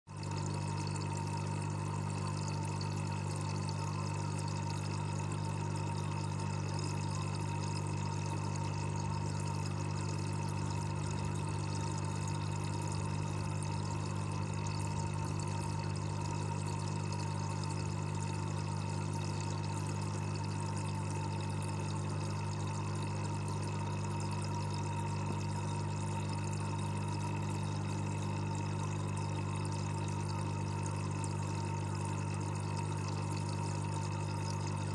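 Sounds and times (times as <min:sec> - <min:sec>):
aquarium bubbling underwater: 0:00.1 - 0:34.9.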